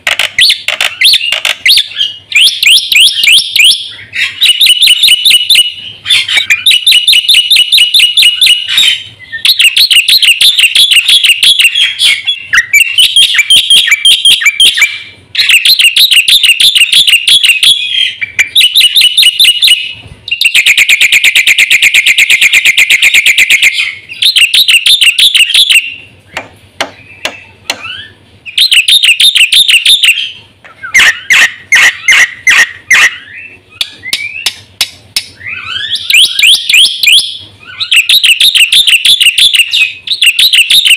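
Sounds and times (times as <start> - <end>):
bird singing shrill notes: 0.3 - 26.2, 27.0 - 31.4, 35.4 - 40.9.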